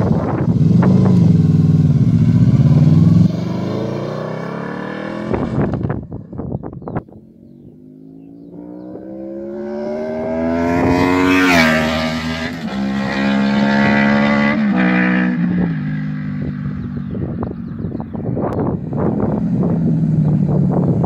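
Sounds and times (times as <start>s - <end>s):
motorcycle accelerating past: 0.0s - 6.4s, 7.4s - 21.0s.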